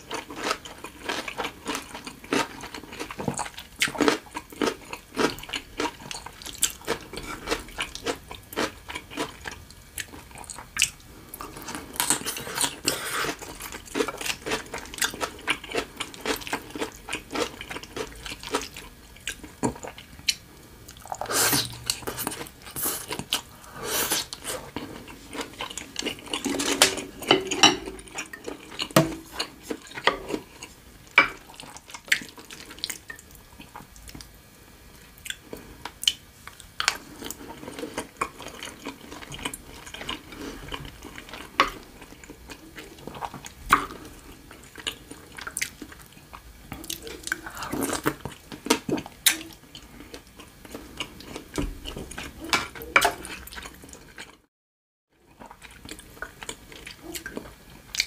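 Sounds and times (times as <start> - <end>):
wet chewing and mouth sounds: 0.0 - 34.3, 35.1 - 54.5, 55.3 - 58.0.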